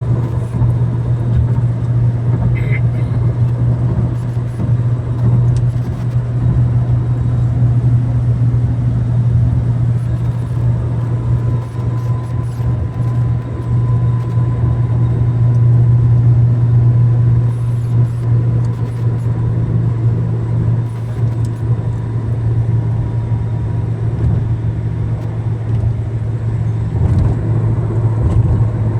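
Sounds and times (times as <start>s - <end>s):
car engine droning: 0.0s - 28.9s.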